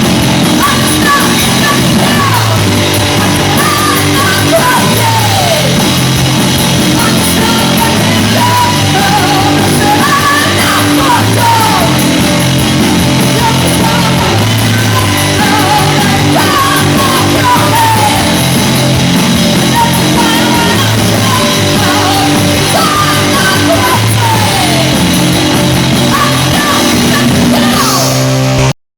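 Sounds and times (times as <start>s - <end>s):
punk rock band playing live: 0.0s - 28.7s.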